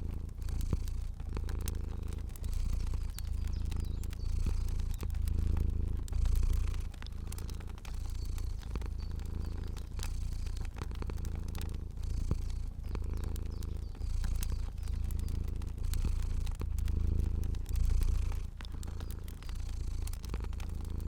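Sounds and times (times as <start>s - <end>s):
cat purring: 0.0s - 21.0s
fire crackling: 0.0s - 21.0s.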